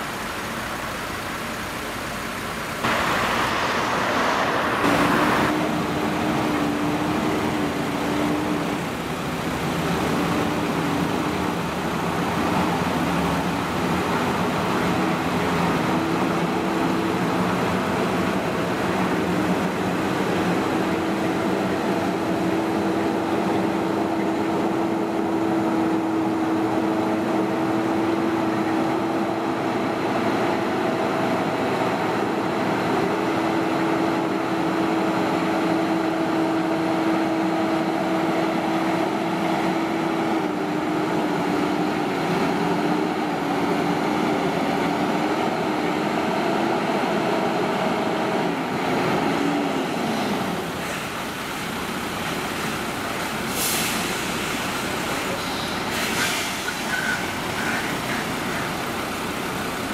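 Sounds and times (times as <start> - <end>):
diesel truck engine droning: 0.0 - 59.9.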